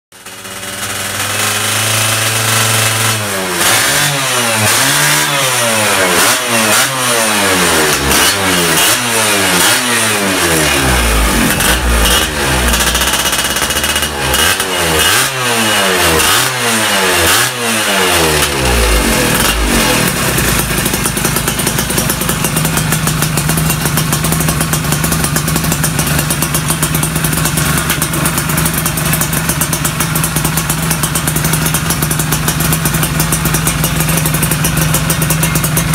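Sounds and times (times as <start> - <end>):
two-stroke motorcycle engine revving: 0.1 - 35.9.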